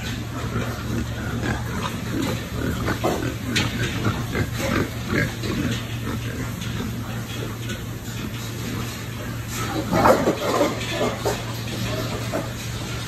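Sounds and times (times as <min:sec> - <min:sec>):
pigs grunting: 0:00.0 - 0:13.0
steady low hum: 0:00.0 - 0:13.0.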